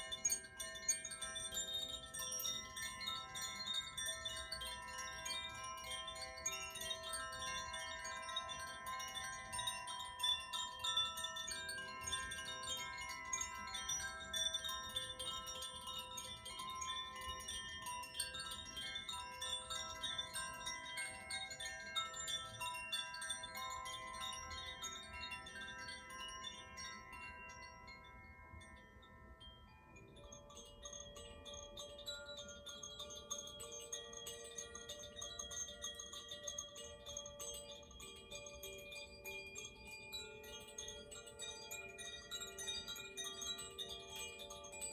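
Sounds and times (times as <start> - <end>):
tuned chimes ringing: 0.0 - 44.9.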